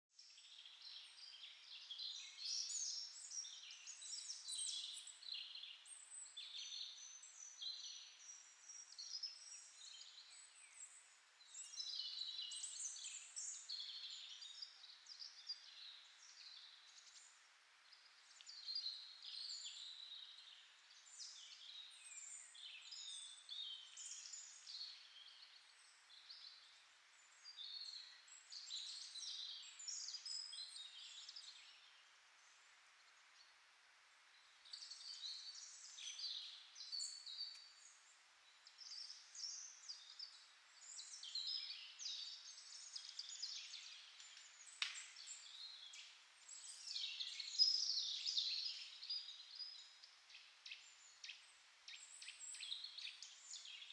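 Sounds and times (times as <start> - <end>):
small birds chirping and trilling: 0.1 - 53.9.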